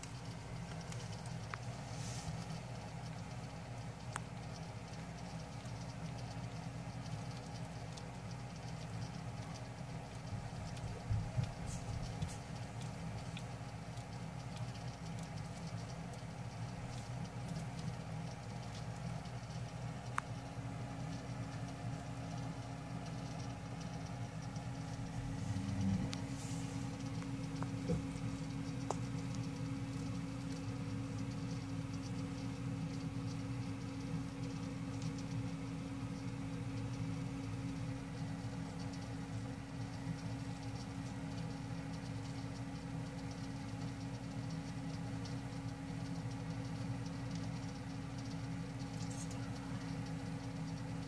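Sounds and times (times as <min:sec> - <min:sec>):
faint clicks and ticks: 0:00.0 - 0:51.0
low mechanical hum: 0:00.0 - 0:51.0.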